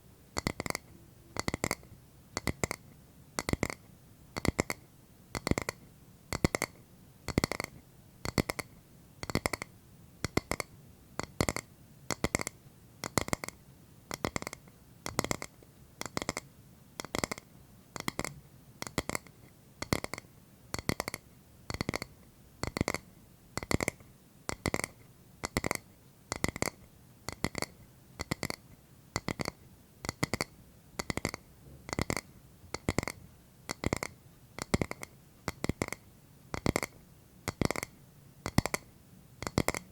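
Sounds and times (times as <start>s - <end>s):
fingernail tapping on hard object: 0.4s - 2.8s, 3.4s - 23.0s, 23.6s - 39.9s.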